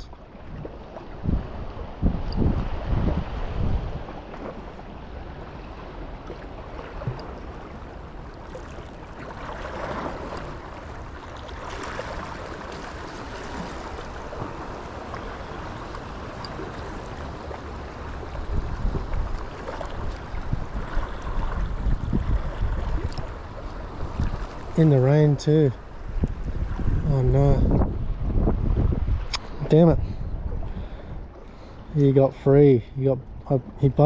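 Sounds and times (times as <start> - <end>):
water washing at shoreline: 0.0 - 34.0
wind rumble on microphone: 0.0 - 34.0.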